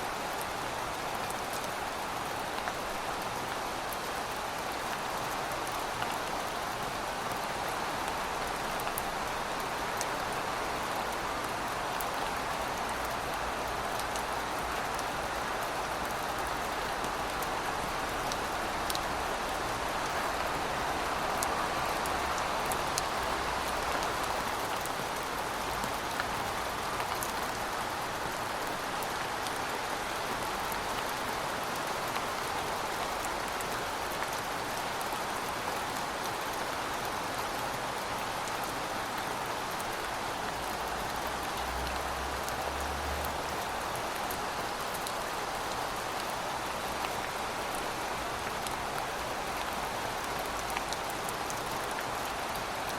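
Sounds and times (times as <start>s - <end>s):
rain hiss: 0.0s - 52.9s.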